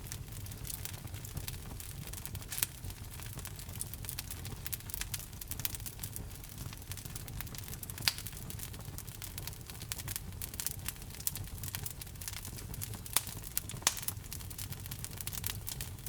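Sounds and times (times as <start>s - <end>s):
wood fire crackling: 0.0s - 16.0s
sharp fire pops: 0.1s - 16.0s.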